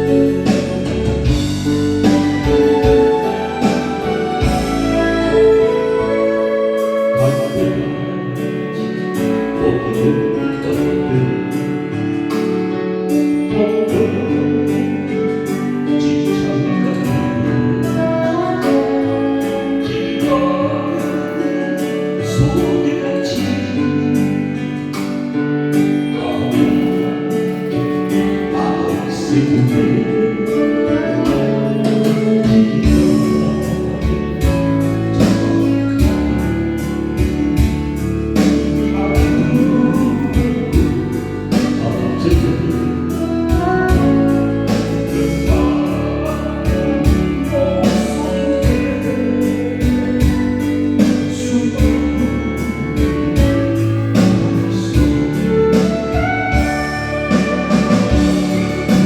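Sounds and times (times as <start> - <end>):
karaoke ballad accompaniment: 0.0 - 59.0
person singing: 0.0 - 59.0.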